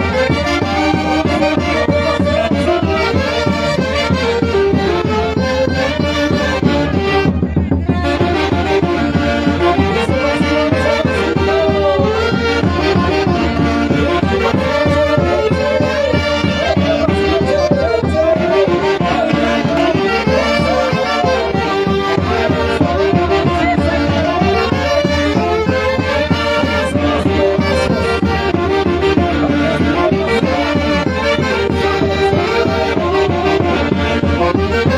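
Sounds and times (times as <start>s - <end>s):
band playing traditional music: 0.0s - 34.9s.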